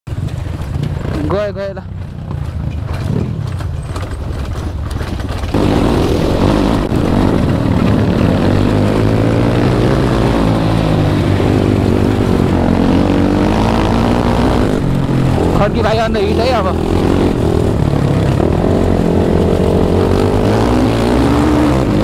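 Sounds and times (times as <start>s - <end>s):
dirt bike engine revving: 0.4s - 4.2s, 5.0s - 22.0s.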